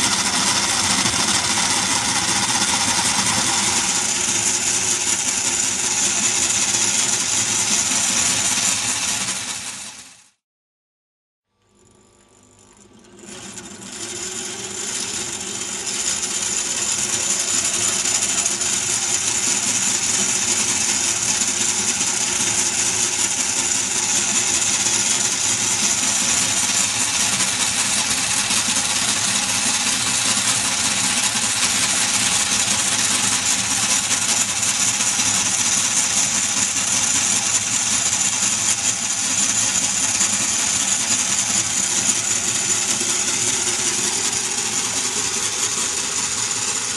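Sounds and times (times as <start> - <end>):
small electric motor whine: 0.0 - 10.3, 11.6 - 46.9.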